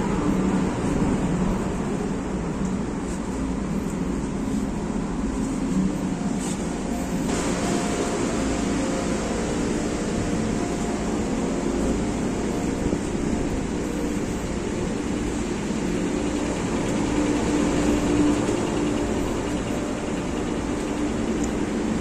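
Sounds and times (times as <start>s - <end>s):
faint machinery hum: 0.0s - 22.0s
rushing water noise: 0.0s - 22.0s
ship engine low rumble: 0.0s - 22.0s.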